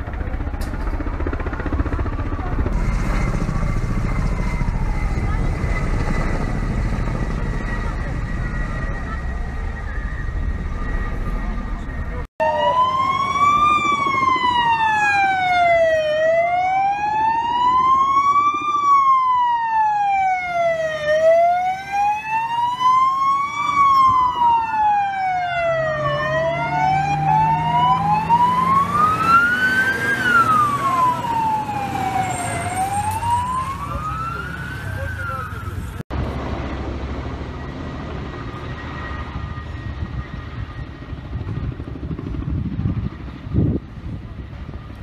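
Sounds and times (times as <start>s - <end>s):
second siren wailing: 0.0s - 36.0s, 37.5s - 41.2s
emergency siren wailing: 0.0s - 45.0s.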